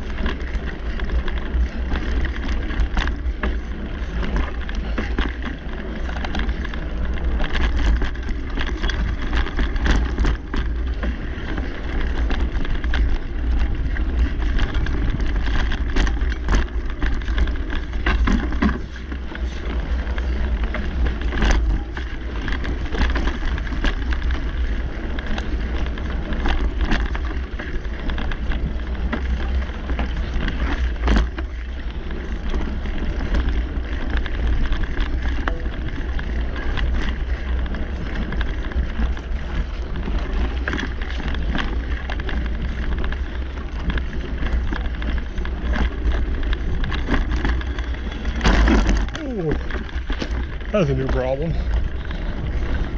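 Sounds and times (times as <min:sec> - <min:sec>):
bike knocking and rattling: 0:00.0 - 0:52.9
bike tyre noise on dirt: 0:00.0 - 0:52.9.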